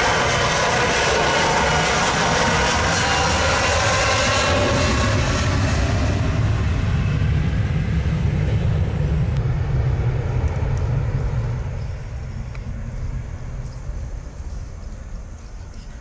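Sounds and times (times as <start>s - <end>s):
jet engines rumbling at takeoff: 0.0s - 16.0s.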